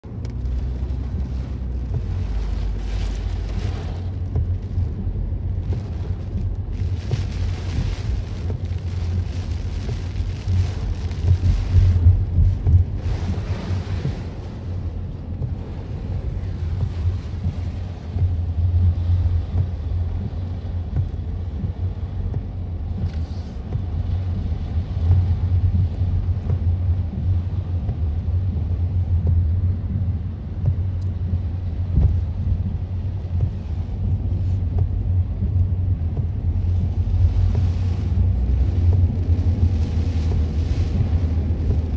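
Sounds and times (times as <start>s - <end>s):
heavy rain on car: 0.0s - 41.9s
tyres rumbling on wet road: 0.0s - 41.9s
wind: 0.0s - 41.9s.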